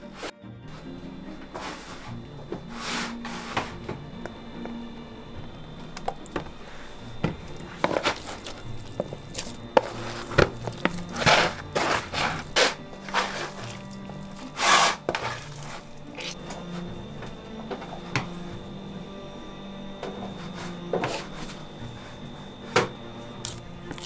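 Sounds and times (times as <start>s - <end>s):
quiet background music: 0.0s - 24.0s.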